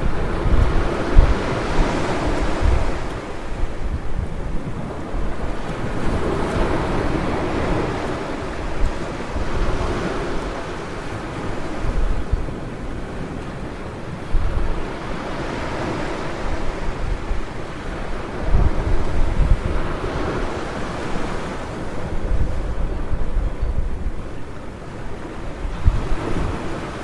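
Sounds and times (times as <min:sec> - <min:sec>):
ocean surf washing onto beach: 0:00.0 - 0:27.0
wind buffeting microphone: 0:00.0 - 0:27.0.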